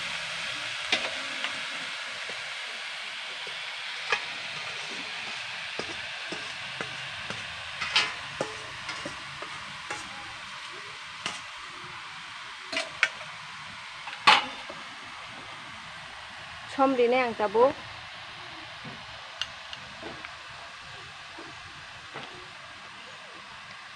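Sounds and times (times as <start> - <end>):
greens sizzling in hot oil: 0.0 - 23.9.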